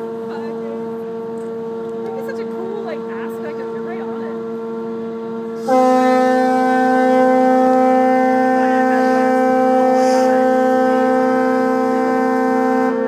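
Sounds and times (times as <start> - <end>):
louder higher boat horn: 0.0 - 13.0
steady boat horn: 0.0 - 13.0.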